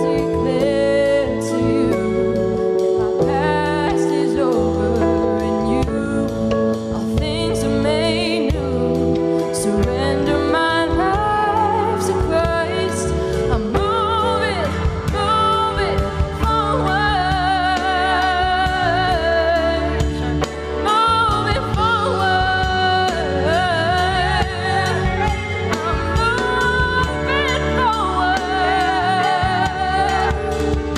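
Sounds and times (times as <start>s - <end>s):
live band with bass: 0.0s - 30.9s.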